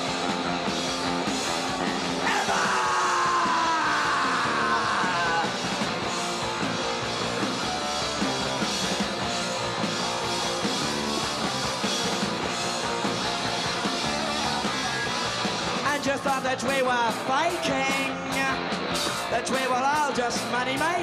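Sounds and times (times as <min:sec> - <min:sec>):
bass guitar: 0:00.0 - 0:21.0
drums steady beat: 0:00.0 - 0:21.0
electric guitar: 0:00.0 - 0:21.0.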